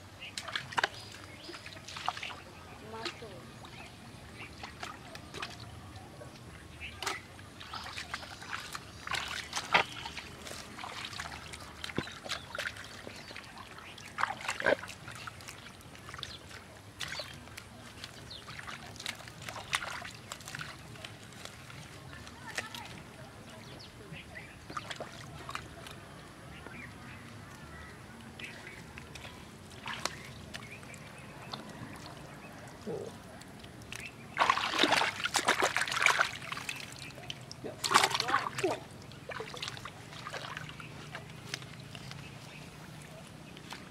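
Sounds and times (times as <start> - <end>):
squelching in muddy water: 0.0 - 43.9.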